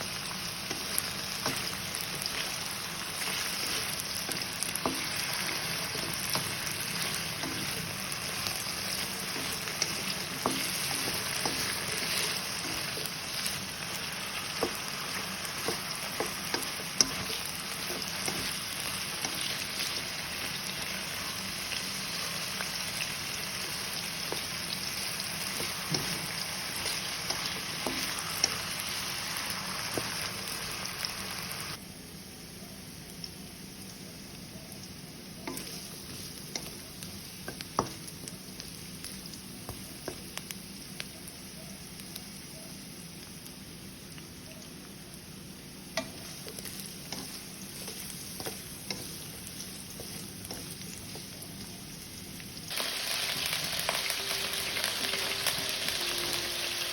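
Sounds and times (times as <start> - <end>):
food sizzling in hot oil: 0.0 - 32.3, 32.9 - 56.9.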